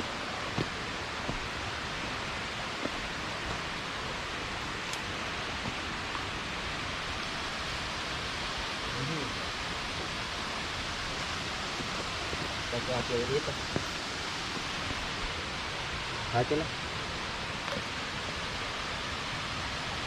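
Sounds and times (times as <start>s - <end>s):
stream of running water: 0.0s - 20.0s.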